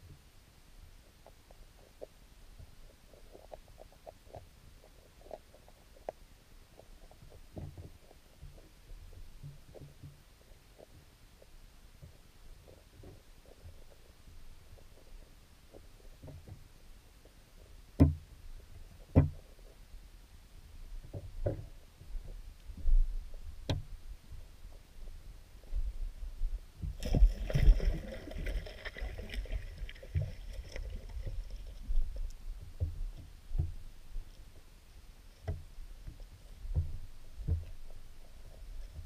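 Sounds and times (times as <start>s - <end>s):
muffled underwater rumble: 0.0s - 39.0s.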